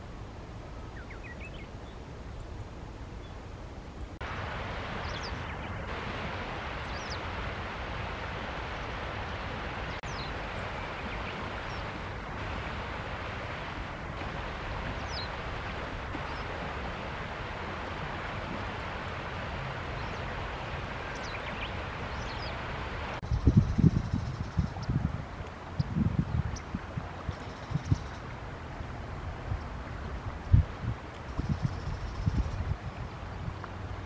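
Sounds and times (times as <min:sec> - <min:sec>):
steady rushing noise: 0:03.9 - 0:32.8.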